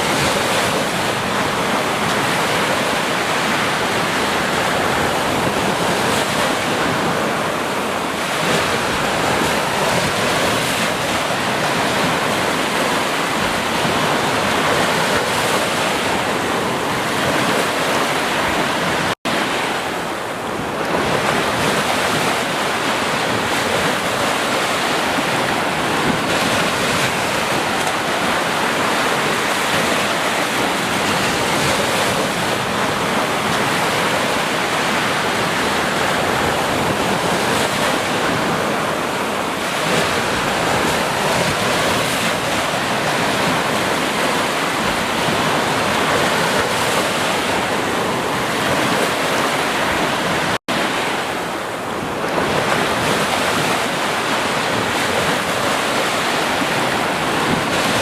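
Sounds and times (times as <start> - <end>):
ocean waves washing on beach: 0.0 - 58.0.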